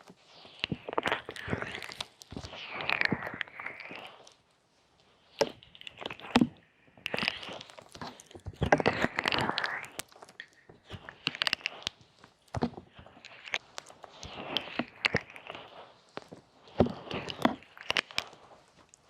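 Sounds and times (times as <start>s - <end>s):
hands rubbing on microphone: 0.0s - 6.4s, 7.0s - 19.0s.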